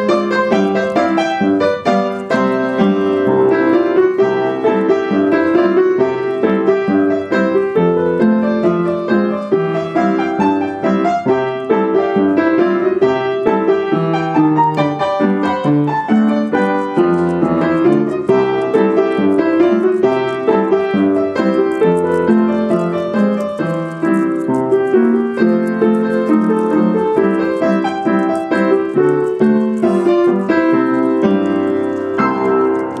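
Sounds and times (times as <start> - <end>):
piano music with quick notes: 0.0 - 33.0.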